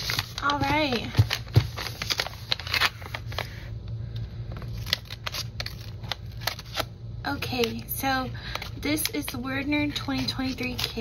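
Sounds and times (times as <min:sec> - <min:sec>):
package crinkling: 0:00.0 - 0:11.0.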